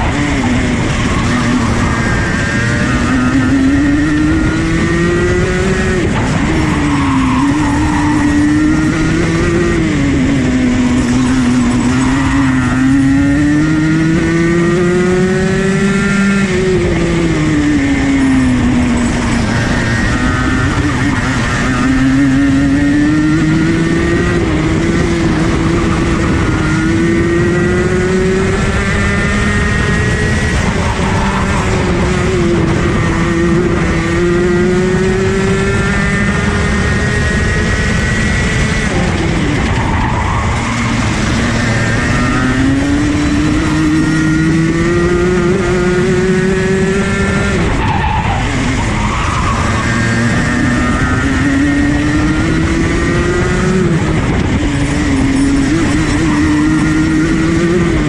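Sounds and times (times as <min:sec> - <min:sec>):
kart engine racing: 0:00.0 - 0:58.0.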